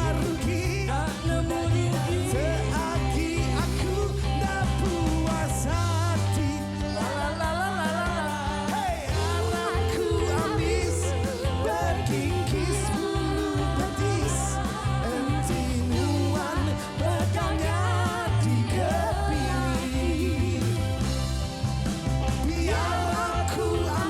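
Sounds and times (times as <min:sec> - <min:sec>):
person singing: 0:00.0 - 0:21.0, 0:22.4 - 0:24.0
live band playing pop-rock: 0:00.0 - 0:24.0.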